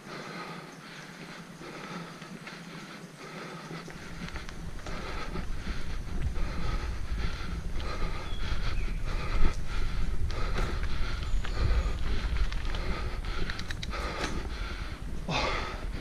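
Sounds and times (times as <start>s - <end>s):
wind and tyres rumbling: 0.0s - 16.0s
bike rattling: 0.1s - 16.0s.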